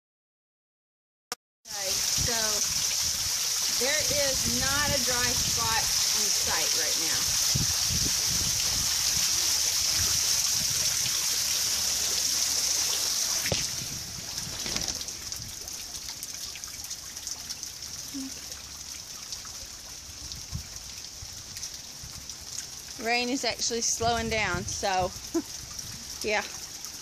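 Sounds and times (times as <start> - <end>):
heavy rain pouring: 1.7 - 27.0.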